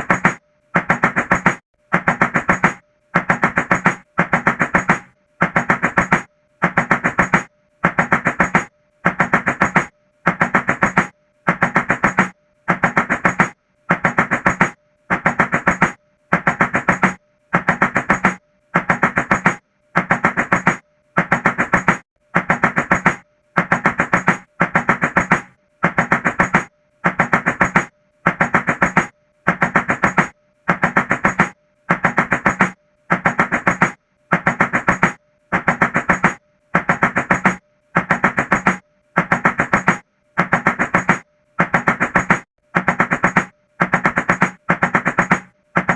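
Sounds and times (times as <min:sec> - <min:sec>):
rapid knocking on a door: 0:00.0 - 0:45.9.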